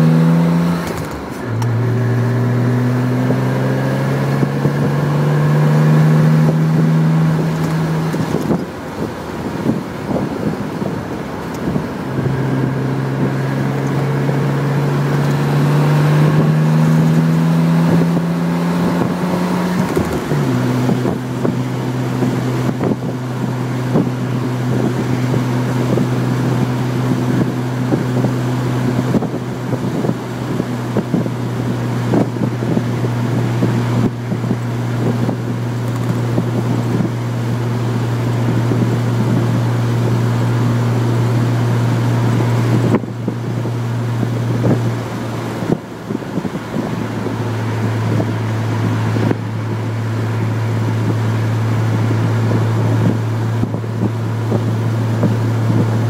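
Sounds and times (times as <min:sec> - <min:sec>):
car engine accelerating: 0:00.0 - 0:56.0
road and wind noise: 0:00.0 - 0:56.0.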